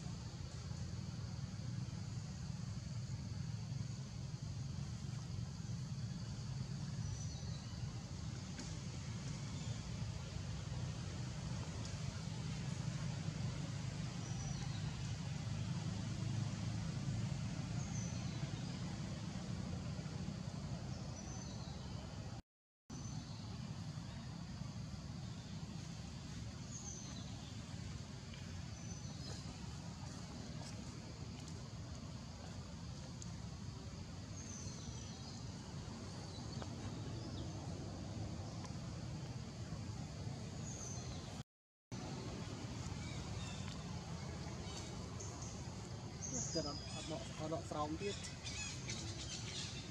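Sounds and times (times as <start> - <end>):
low rumble with hiss: 0.0 - 49.9.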